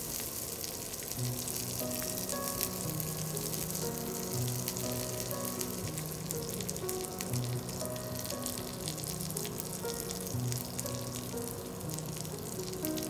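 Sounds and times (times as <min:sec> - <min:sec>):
fat sizzling in a frying pan: 0:00.0 - 0:13.0
background music with held notes: 0:01.2 - 0:13.0.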